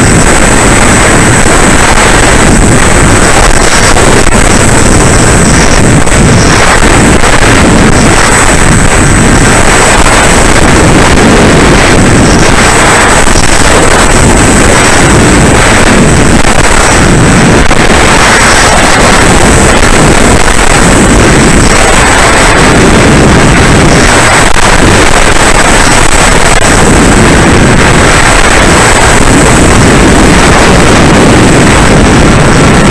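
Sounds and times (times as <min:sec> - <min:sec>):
model plane motor and propeller: 0:00.0 - 0:32.9
thin high whine: 0:00.0 - 0:32.9
wind rushing: 0:00.0 - 0:32.9.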